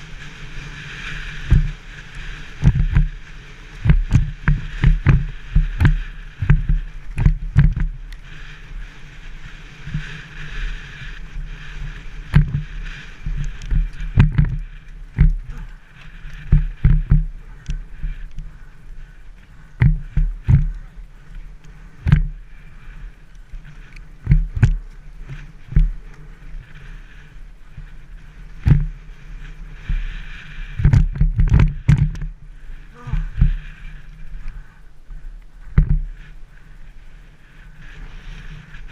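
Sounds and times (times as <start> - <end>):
bike thudding and rattling over bumps: 0.0 - 38.9
wind and tyre noise: 0.0 - 38.9.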